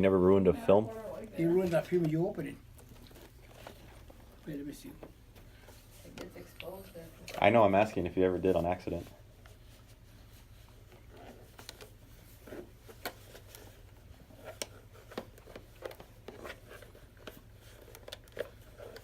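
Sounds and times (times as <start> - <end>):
soft rustling: 0.0 - 19.0.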